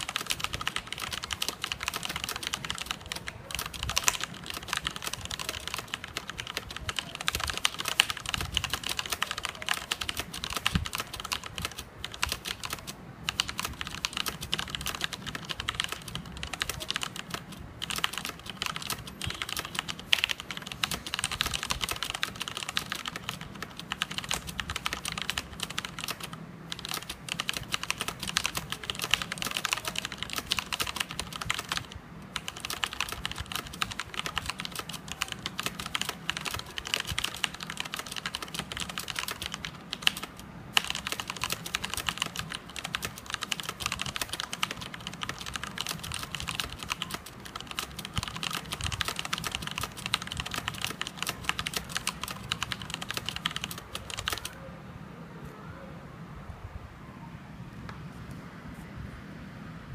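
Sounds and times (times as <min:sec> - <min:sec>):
typing on a mechanical keyboard: 0:00.0 - 0:54.6.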